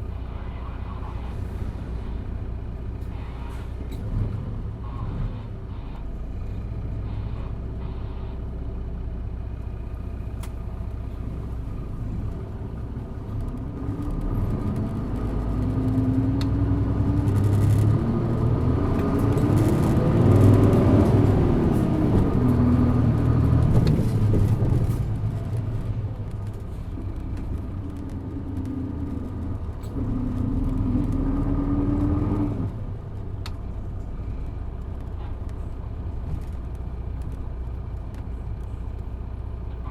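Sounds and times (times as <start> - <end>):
bus diesel engine accelerating: 0.0 - 39.9.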